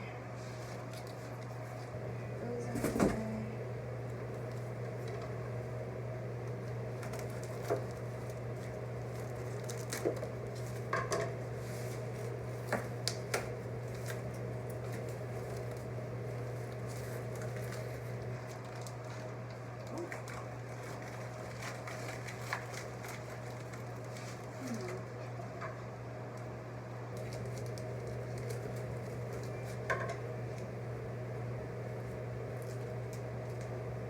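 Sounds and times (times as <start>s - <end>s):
steady low hum: 0.0s - 34.0s
plants and packaging rustling: 0.4s - 3.4s, 6.4s - 25.3s, 27.1s - 30.8s, 31.8s - 33.8s.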